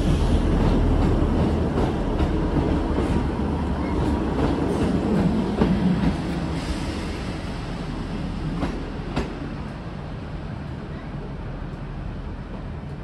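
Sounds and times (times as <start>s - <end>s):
train engine rumble: 0.0s - 13.0s
train wheel noise: 0.0s - 13.0s.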